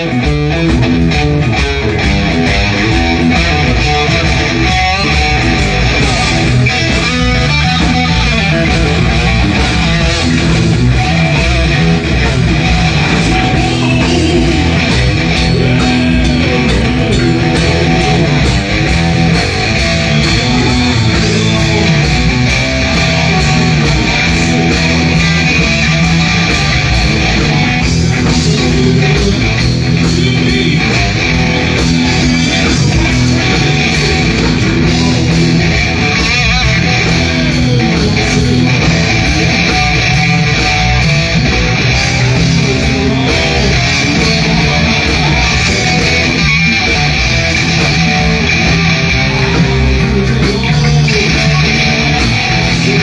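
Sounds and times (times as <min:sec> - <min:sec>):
live electric guitar music: 0:00.0 - 0:53.0.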